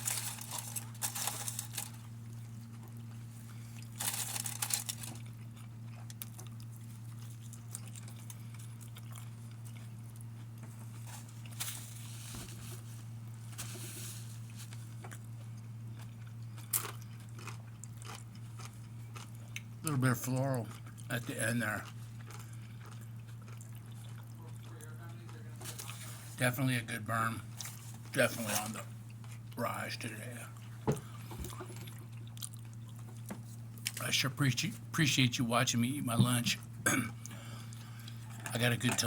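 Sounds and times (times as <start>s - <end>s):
person chewing crunchy pepper: 0.0s - 12.2s, 14.2s - 26.2s, 27.5s - 34.1s, 36.4s - 39.0s
steady low hum: 0.0s - 39.0s.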